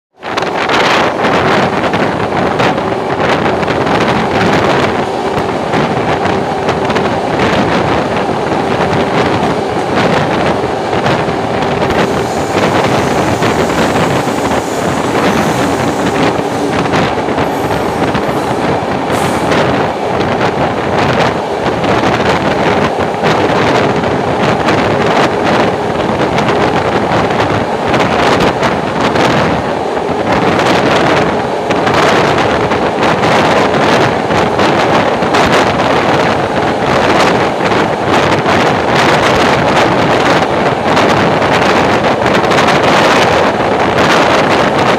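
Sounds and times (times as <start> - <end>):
train rushing through tunnel: 0.1 - 44.9
wind buffeting microphone: 0.2 - 44.9.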